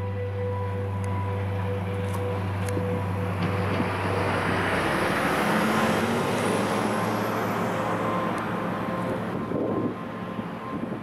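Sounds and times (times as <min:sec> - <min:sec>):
road vehicle passing: 0:00.1 - 0:11.0.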